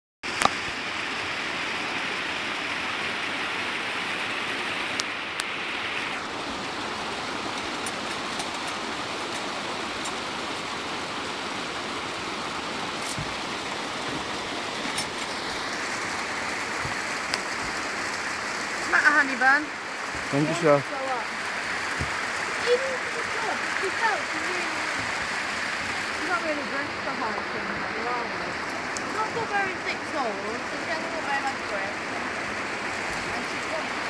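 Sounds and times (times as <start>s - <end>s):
waterfall rushing: 0.2s - 34.0s.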